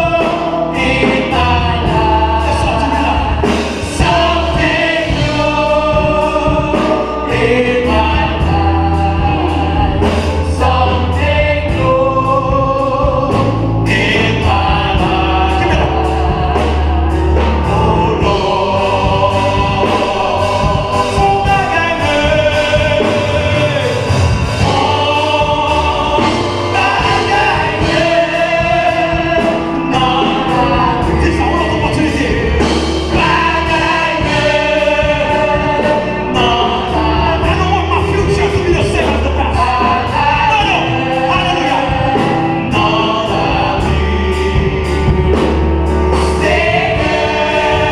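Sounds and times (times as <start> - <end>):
bass notes and steady beat: 0.0 - 47.9
gospel choir singing: 0.0 - 47.9.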